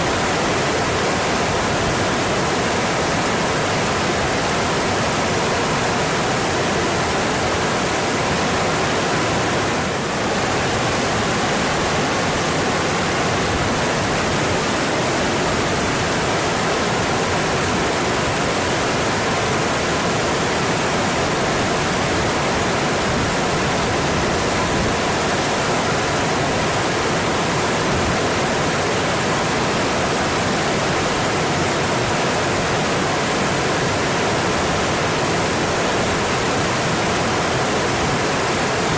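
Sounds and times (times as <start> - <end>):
stream rushing water: 0.0 - 38.9.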